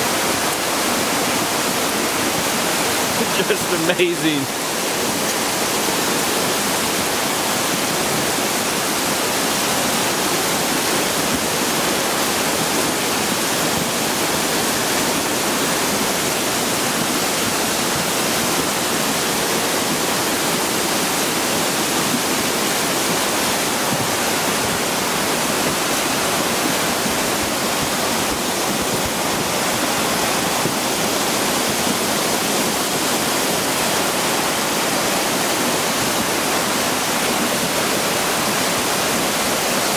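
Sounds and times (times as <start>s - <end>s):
floodwater rushing down gully: 0.0s - 39.9s
heavy rain falling: 0.0s - 39.9s.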